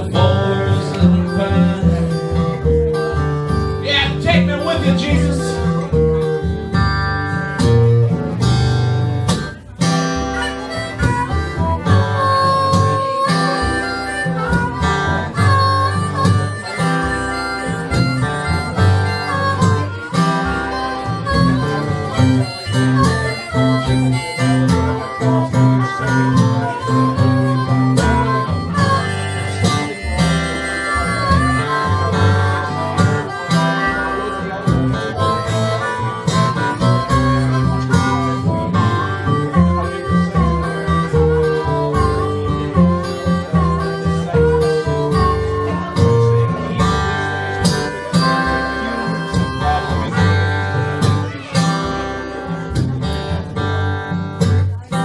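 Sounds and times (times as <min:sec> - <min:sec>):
acoustic guitar: 0:00.0 - 0:55.0
blues harmonica: 0:00.0 - 0:55.0.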